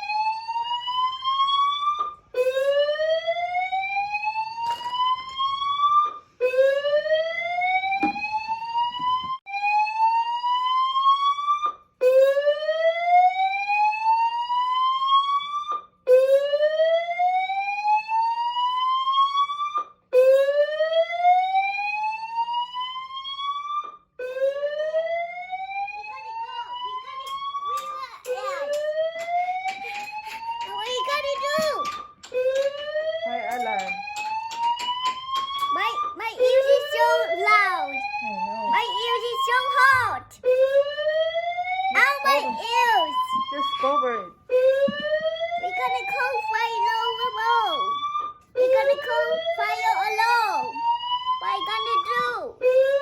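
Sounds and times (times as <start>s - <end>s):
fire alarm whooping: 0.0s - 53.0s.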